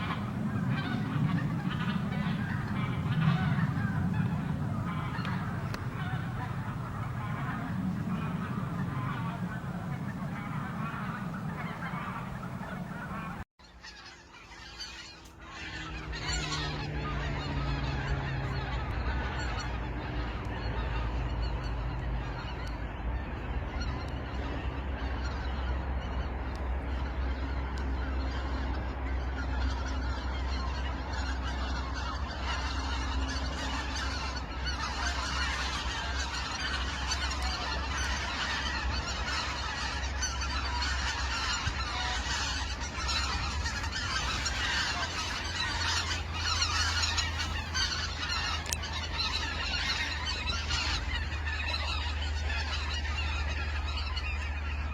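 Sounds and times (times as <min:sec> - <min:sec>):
geese honking: 0:00.0 - 0:54.9
steady low rumble: 0:00.0 - 0:54.9.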